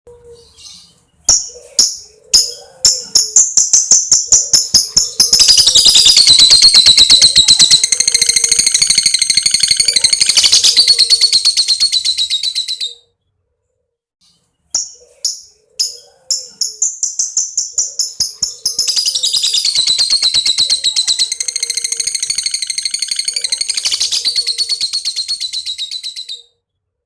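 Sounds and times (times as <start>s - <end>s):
lovebird chatter: 0.6s - 13.0s, 14.8s - 26.4s.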